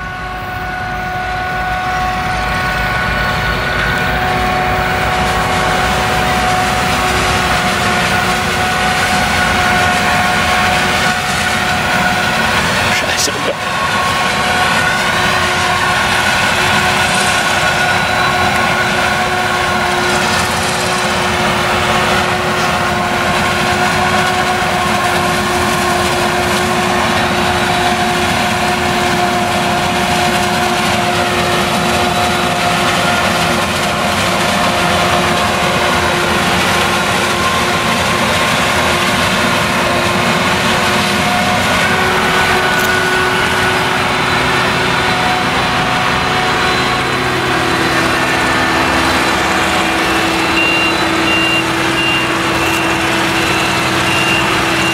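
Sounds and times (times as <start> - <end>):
steady whine: 0.0 - 34.2, 34.9 - 54.9
engine running under load: 0.0 - 54.9.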